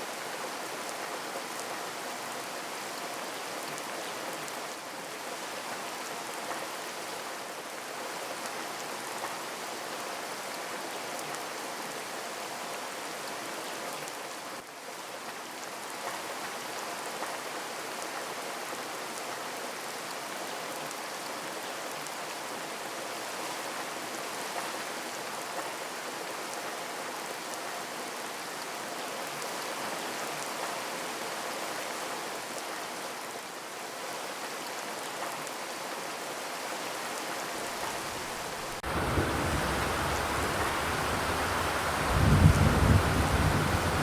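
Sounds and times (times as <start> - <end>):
rain on a metal roof: 0.0 - 44.0.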